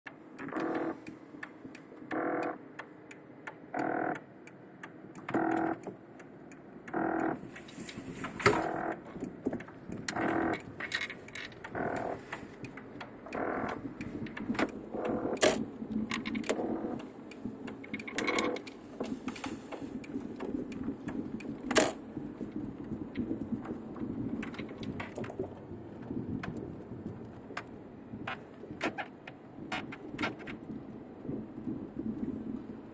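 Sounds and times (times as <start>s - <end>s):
sharp clicks: 0.1s - 26.7s
air conditioning unit rumbling: 4.3s - 32.9s.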